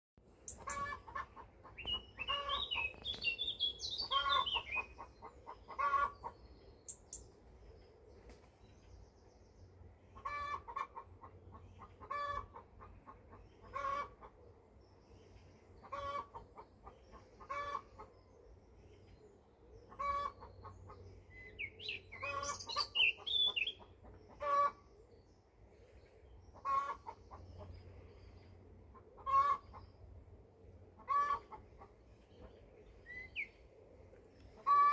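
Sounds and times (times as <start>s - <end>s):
bird clucking calls: 0.4s - 8.5s, 10.1s - 14.6s, 15.3s - 34.9s.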